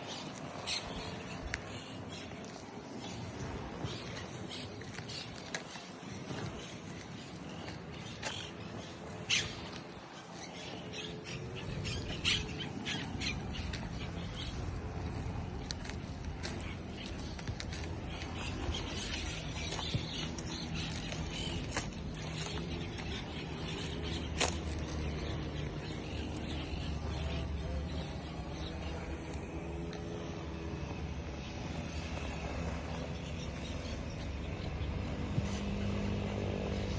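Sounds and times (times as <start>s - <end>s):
birds calling: 0.0s - 36.9s
engine drone: 0.0s - 36.9s.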